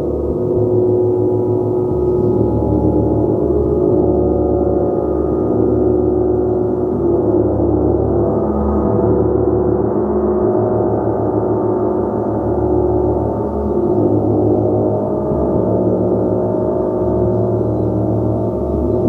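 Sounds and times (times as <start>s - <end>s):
gong played continuously: 0.0s - 19.0s.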